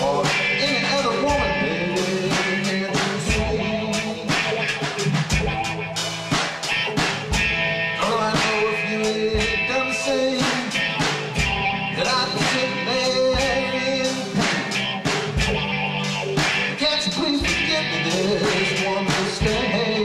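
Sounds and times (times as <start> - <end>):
drum kit beat: 0.0 - 20.0
electric guitar lead lines: 0.0 - 20.0.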